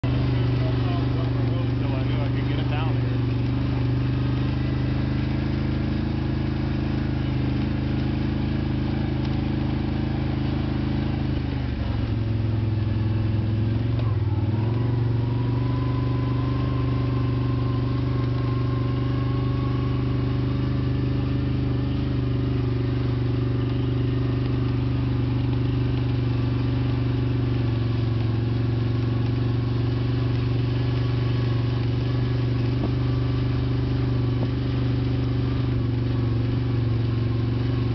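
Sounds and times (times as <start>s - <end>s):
motor hum: 0.0s - 37.9s.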